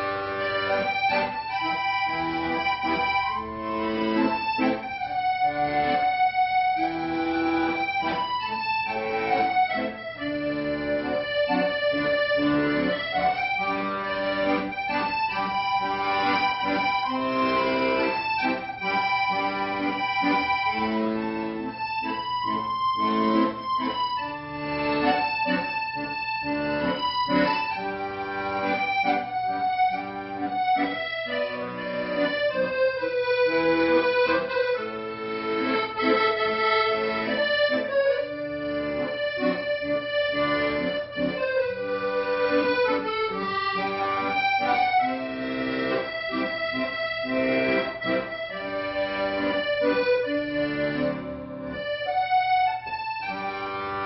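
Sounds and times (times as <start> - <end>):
accordion playing slow melody: 0.0 - 54.0.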